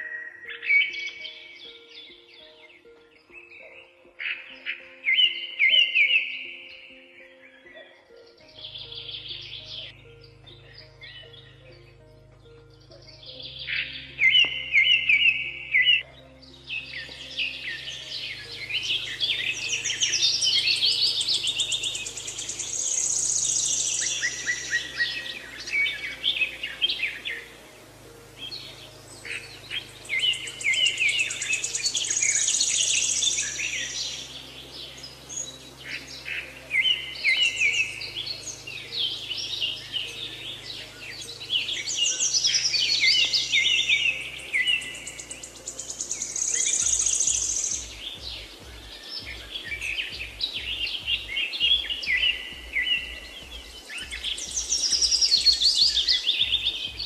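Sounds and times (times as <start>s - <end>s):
birds singing and trilling: 0.0s - 57.0s.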